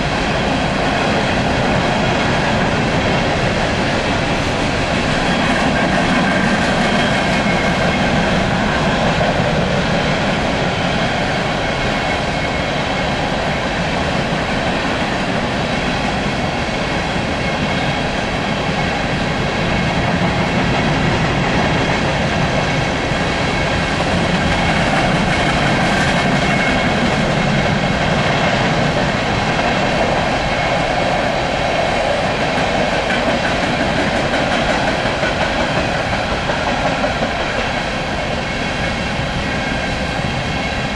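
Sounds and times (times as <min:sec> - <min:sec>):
freight train wheels rolling: 0:00.0 - 0:40.9.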